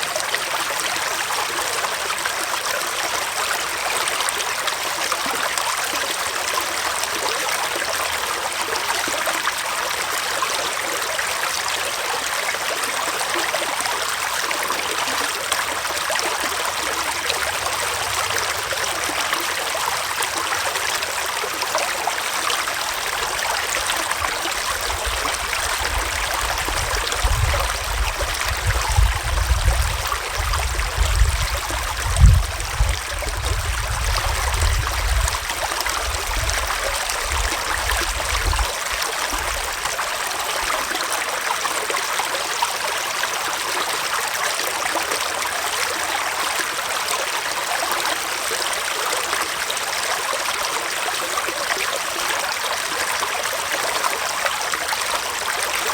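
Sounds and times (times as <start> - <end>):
stream flowing over rocks: 0.0 - 55.9.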